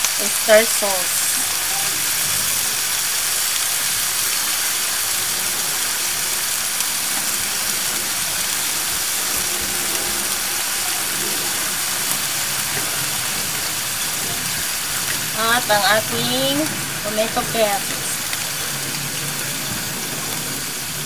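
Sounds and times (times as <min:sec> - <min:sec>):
mussels sizzling in butter: 0:00.0 - 0:21.0.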